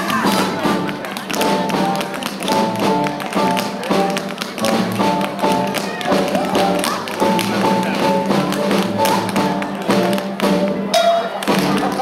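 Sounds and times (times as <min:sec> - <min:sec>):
tap shoes on wooden floor: 0:00.0 - 0:10.8
swing big band playing: 0:00.0 - 0:12.0.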